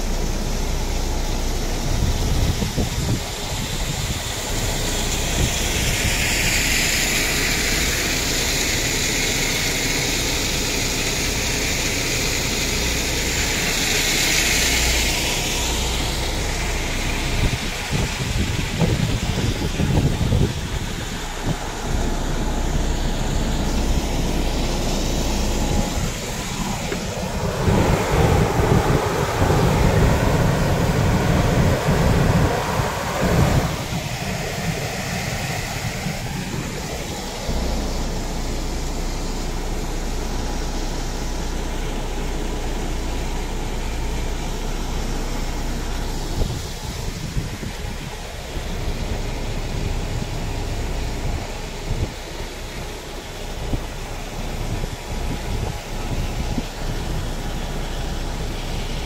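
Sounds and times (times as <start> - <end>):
wind buffeting microphone: 0.0 - 10.6, 12.4 - 59.0
low ship engine hum: 0.0 - 59.0
sea wash: 3.2 - 59.0.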